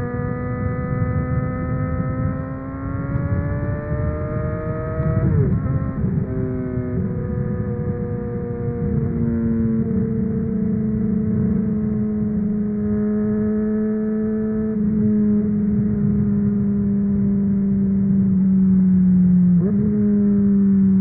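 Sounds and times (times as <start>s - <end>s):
motorcycle engine at high revs: 0.0s - 21.0s
wind and road noise: 0.0s - 21.0s.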